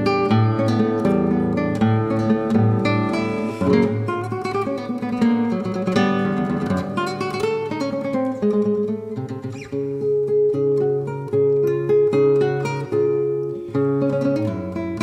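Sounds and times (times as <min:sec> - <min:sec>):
flamenco-style acoustic guitar: 0:00.0 - 0:15.0.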